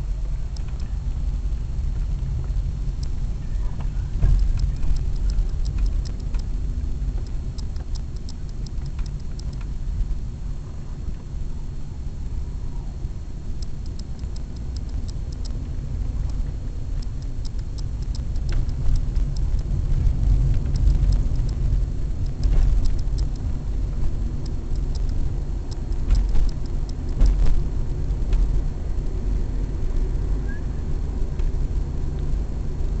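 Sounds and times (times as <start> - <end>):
light clicks and rattles: 0.0 - 10.2, 13.4 - 30.3
car driving rumble: 0.0 - 33.0.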